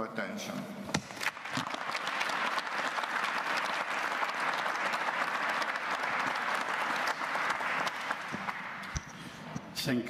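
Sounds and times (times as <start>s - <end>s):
audience applauding in a hall: 1.0s - 9.5s.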